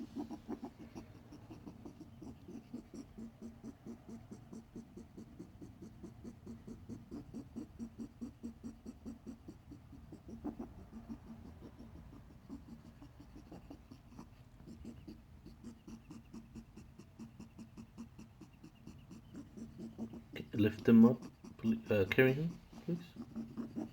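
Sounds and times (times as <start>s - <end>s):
rabbit making rapid rhythmic sound: 0.0s - 23.9s.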